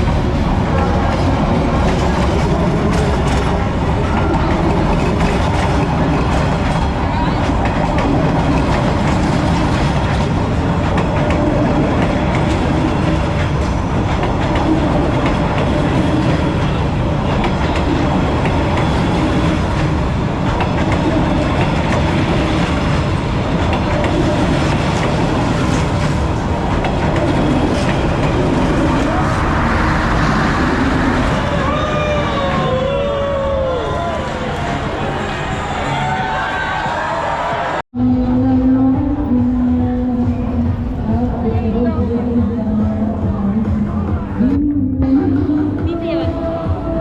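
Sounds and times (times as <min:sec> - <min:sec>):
train passing close by: 0:00.0 - 0:37.8.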